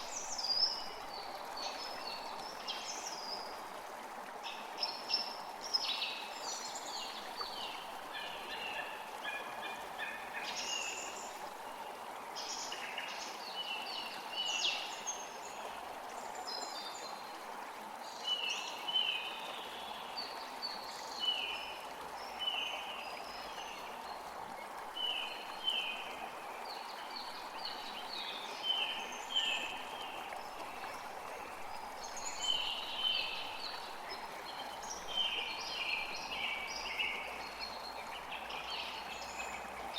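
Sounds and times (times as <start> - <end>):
creek running: 0.0 - 39.9.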